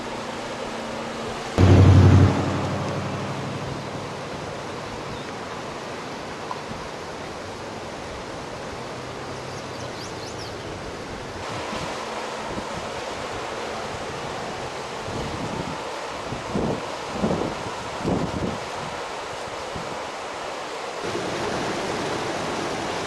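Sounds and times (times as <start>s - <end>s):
rushing floodwater roar: 0.0s - 23.0s.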